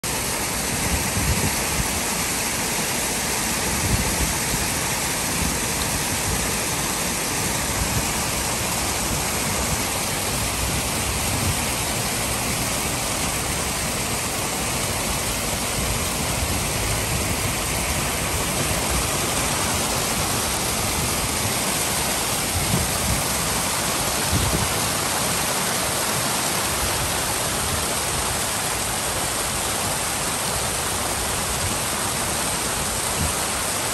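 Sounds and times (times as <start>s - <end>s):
fountain water splashing into basin: 0.0s - 33.9s.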